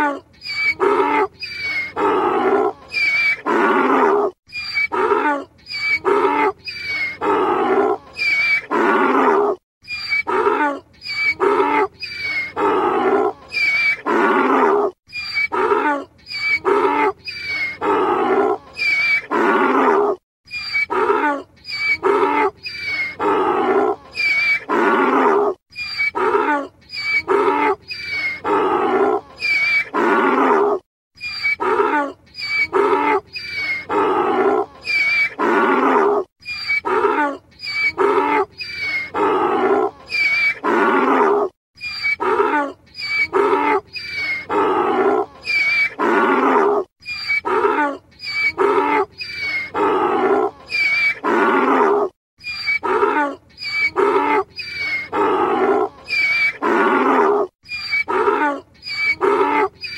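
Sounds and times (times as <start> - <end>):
donkey braying: 0.0 - 59.9.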